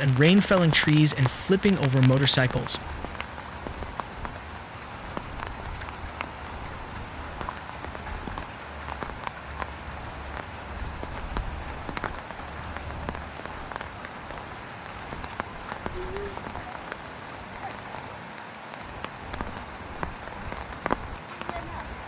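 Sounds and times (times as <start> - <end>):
rain hissing on water: 0.0 - 22.0.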